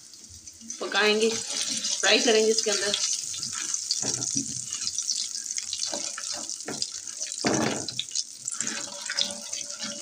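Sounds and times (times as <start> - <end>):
spices sizzling in hot oil: 0.0 - 10.0
spatula stirring in pan: 0.5 - 10.0.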